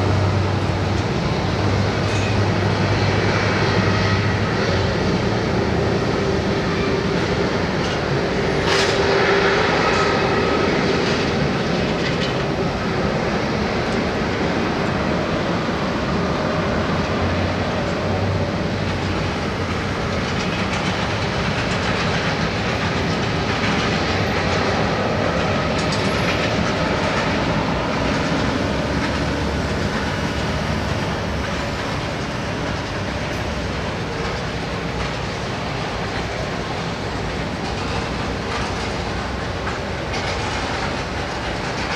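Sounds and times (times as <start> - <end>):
jet engine rumble and whine: 0.0 - 41.9.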